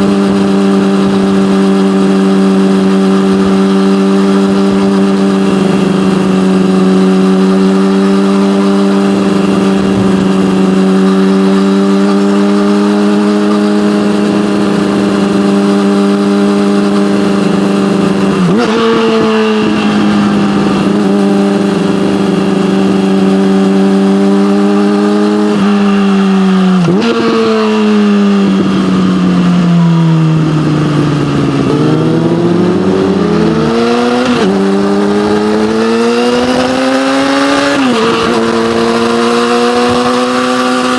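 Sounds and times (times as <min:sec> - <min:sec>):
motorcycle engine riding along: 0:00.0 - 0:40.9.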